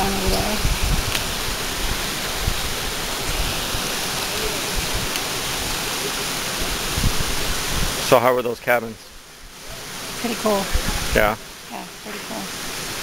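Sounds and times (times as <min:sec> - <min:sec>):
low rumbling: 0:00.0 - 0:12.0
stream rushing over rocks: 0:00.0 - 0:13.0.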